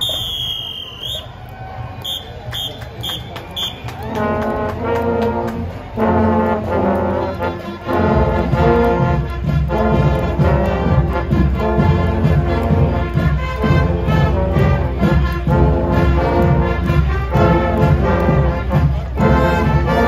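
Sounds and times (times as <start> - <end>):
brass band playing held chords: 2.0 - 20.0.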